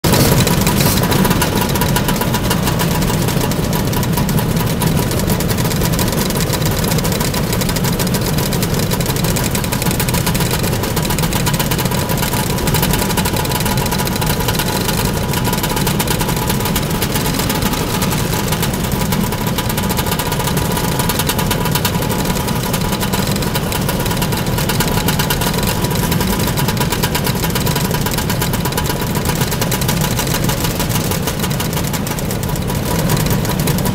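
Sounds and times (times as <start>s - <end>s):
motor scooters idling: 0.0s - 33.9s.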